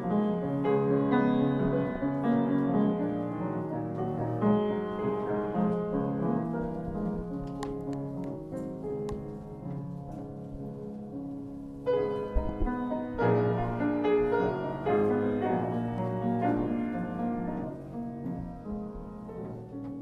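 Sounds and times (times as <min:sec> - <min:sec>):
slow classical piano piece: 0:00.0 - 0:20.0.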